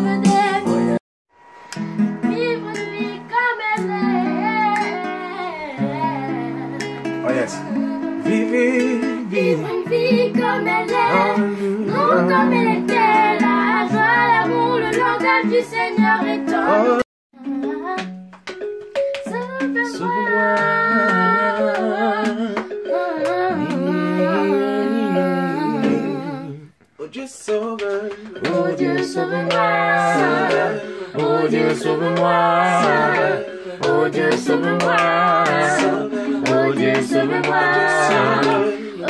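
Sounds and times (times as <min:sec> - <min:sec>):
group of people singing: 0:00.0 - 0:01.0, 0:02.3 - 0:17.0, 0:19.8 - 0:39.0.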